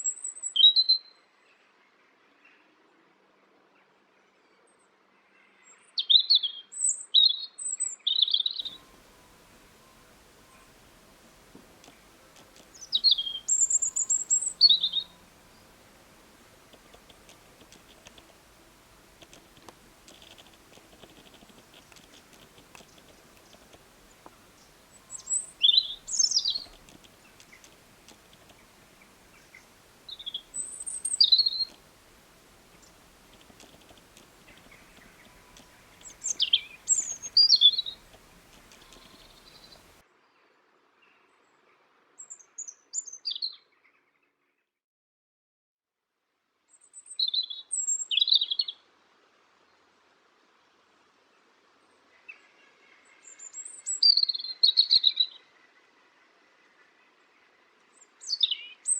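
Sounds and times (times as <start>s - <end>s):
songbird singing: 0.0s - 1.2s, 4.2s - 44.4s, 46.7s - 48.9s, 51.3s - 58.9s
faint background hiss: 0.0s - 44.3s, 46.0s - 58.9s.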